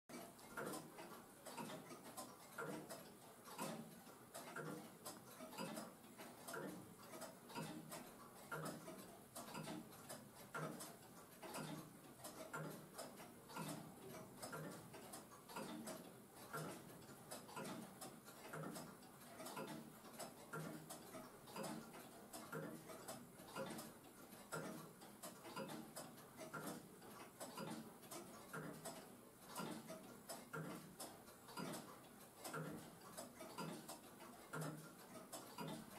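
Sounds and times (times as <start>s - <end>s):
clock ticking: 0.1s - 35.9s.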